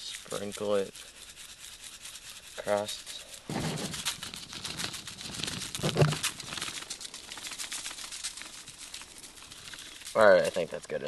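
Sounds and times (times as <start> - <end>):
plastic bag and foil crinkling: 0.1 - 11.0.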